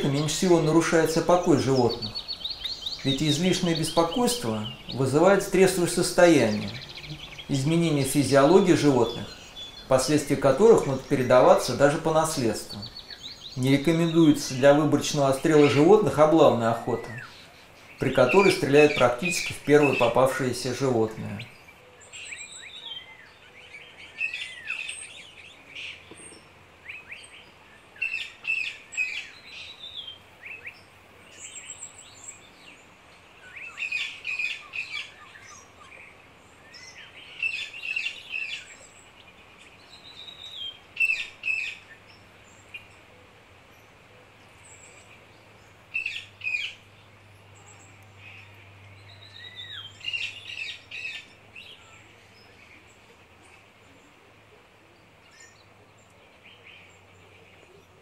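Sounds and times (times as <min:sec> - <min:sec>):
faint background hiss: 0:00.0 - 0:58.0
songbirds singing: 0:00.0 - 0:58.0.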